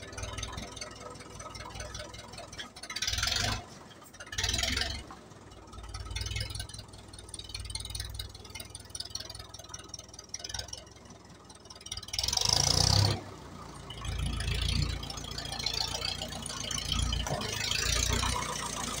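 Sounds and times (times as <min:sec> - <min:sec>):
diesel tractor engine idling: 0:00.0 - 0:19.0.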